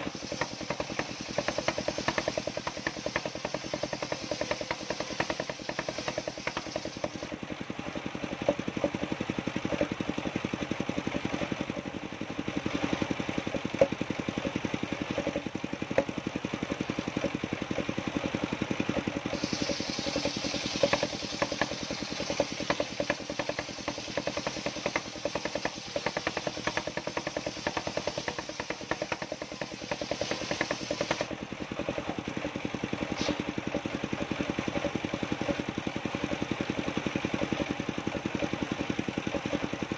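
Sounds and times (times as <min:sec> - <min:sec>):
engine running with fast pulsing: 0:00.0 - 0:39.9.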